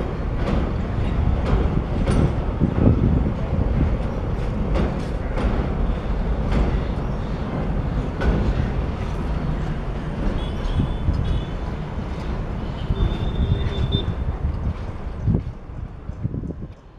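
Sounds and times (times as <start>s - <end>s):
train wagons rumbling past: 0.0s - 16.9s.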